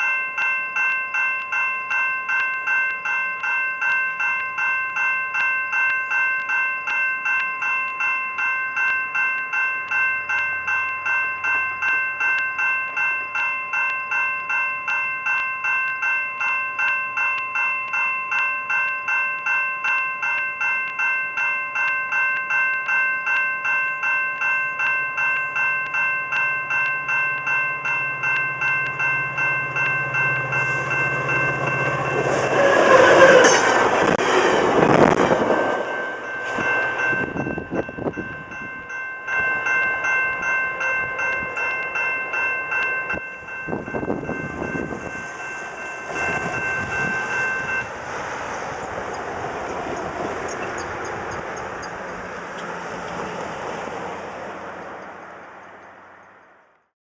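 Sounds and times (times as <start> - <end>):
level crossing warning bell: 0.0 - 56.8
passenger train passing: 0.0 - 56.8.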